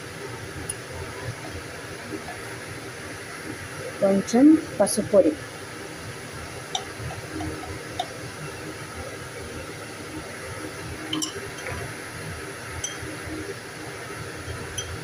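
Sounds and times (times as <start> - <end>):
kitchen room hiss: 0.0 - 15.0.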